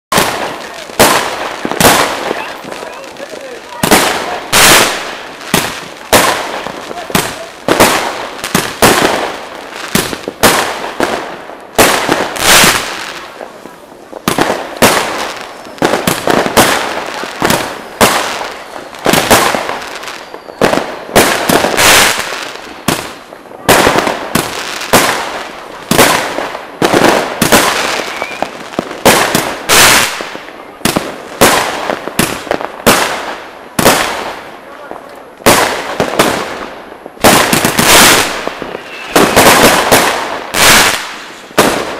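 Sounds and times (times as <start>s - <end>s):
fireworks and firecrackers banging: 0.1s - 41.9s.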